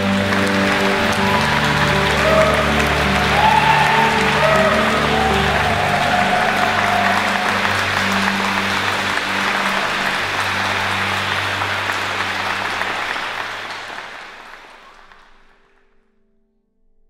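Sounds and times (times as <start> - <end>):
low sustained music notes: 0.0 - 15.7
crowd applauding: 0.0 - 15.9.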